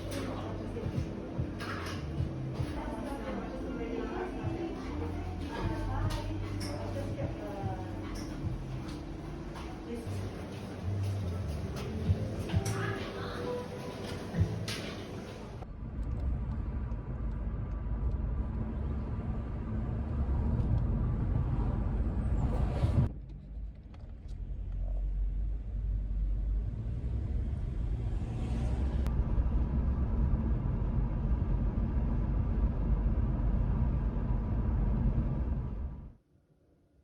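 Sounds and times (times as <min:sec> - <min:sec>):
low rumbling noise: 0:00.0 - 0:36.2.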